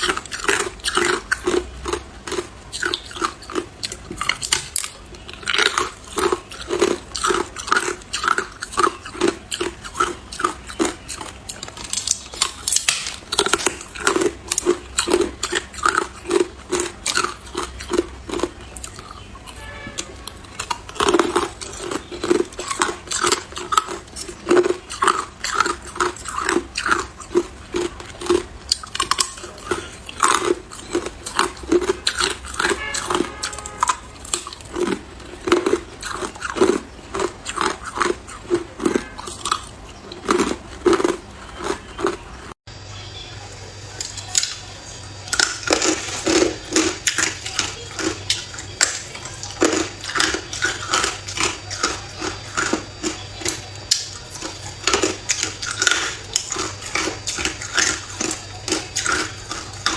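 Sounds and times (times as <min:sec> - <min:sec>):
person chewing ice: 0:00.0 - 0:42.6, 0:43.8 - 0:59.9.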